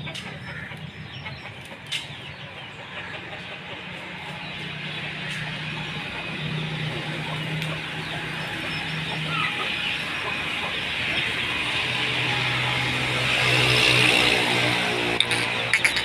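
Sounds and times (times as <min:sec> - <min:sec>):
birds chirping and clucking: 0:00.0 - 0:16.0.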